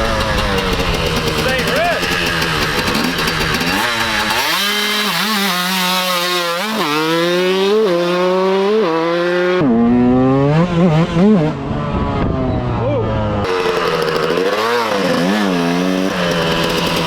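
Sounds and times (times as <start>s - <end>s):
two-stroke engine revving: 0.0s - 12.7s, 13.3s - 17.0s.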